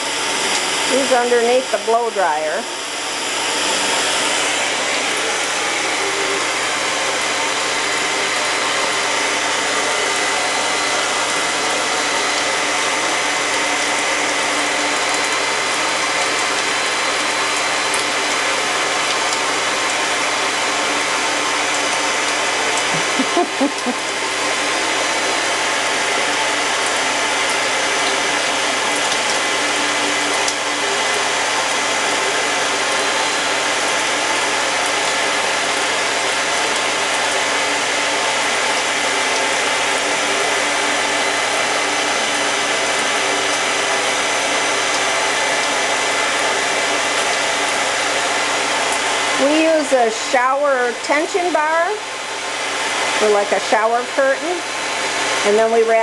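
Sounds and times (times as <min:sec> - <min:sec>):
blow dryer running: 0:00.0 - 0:56.0.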